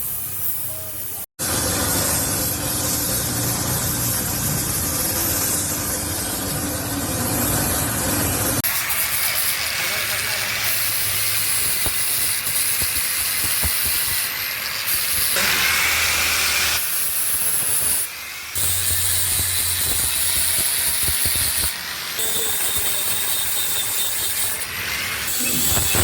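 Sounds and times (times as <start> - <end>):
welding arc hissing: 0.0 - 6.6, 8.6 - 26.0.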